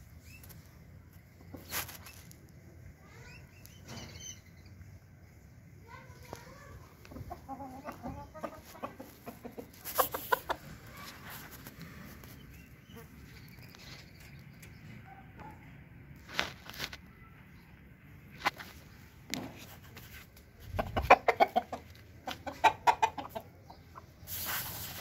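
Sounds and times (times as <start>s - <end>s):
roosters clucking: 0.1s - 5.4s, 6.0s - 15.8s, 18.2s - 25.0s.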